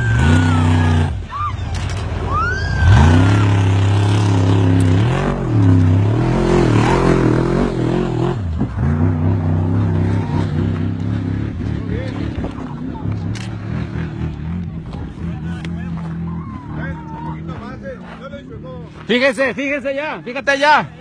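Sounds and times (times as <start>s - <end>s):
truck engine revving hard: 0.0s - 18.2s.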